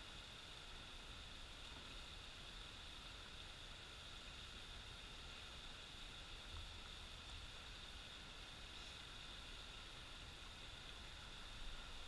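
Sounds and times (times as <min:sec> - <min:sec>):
waterfall pouring into river: 0:00.0 - 0:12.0.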